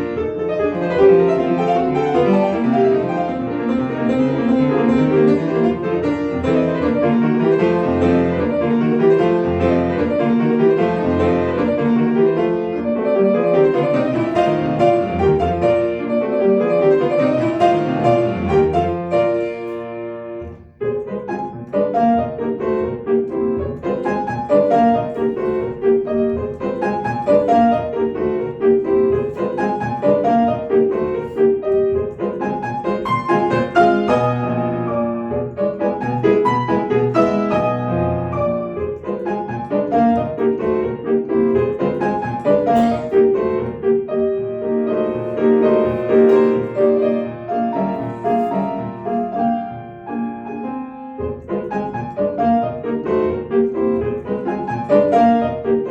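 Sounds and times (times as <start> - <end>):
solo piano classical piece: 0.0 - 55.9.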